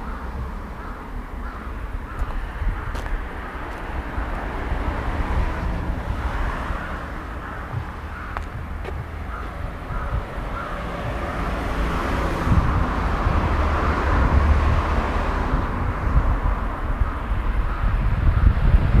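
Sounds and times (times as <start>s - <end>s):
vehicle passing: 0.0s - 19.0s
wind rumble on microphone: 0.0s - 19.0s.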